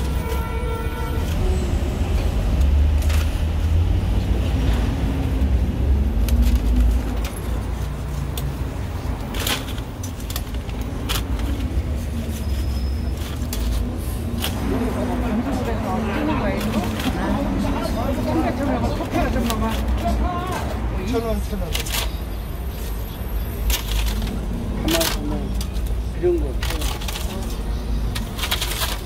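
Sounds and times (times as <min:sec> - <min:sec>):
street traffic rumble: 0:00.0 - 0:29.0.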